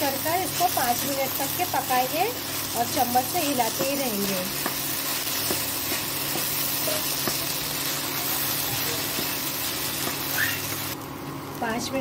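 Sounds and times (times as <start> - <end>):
tapioca pearls sizzling in oil: 0.0 - 12.0.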